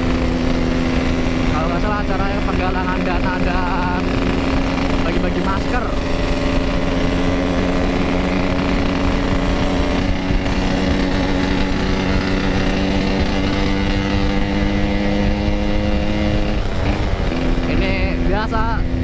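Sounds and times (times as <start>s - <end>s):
motorcycle engine running: 0.0s - 19.0s
wind rumble: 0.0s - 19.0s.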